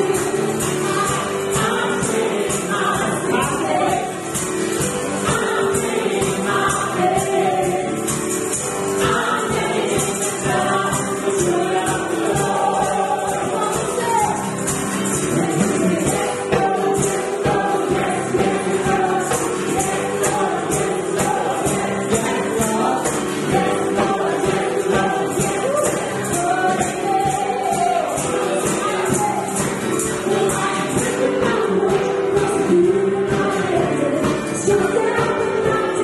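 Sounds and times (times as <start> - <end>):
group singing: 0.0 - 36.0
tambourine shaken: 0.0 - 36.0.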